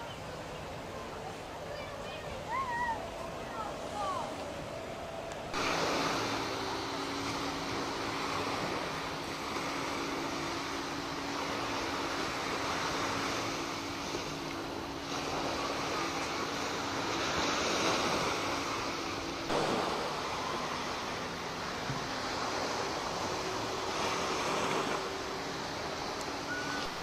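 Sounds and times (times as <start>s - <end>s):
faint steady hum: 0.0s - 27.0s
sea surf: 0.0s - 27.0s.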